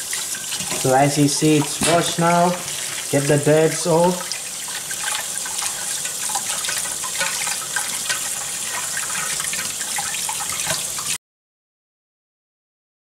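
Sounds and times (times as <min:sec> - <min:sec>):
tap water splashing into sink: 0:00.0 - 0:11.2.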